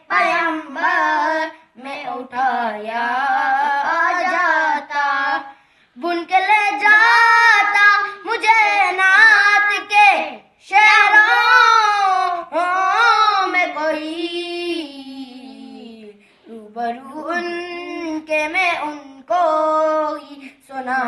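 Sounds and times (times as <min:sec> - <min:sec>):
boys singing unaccompanied: 0:00.0 - 0:21.0.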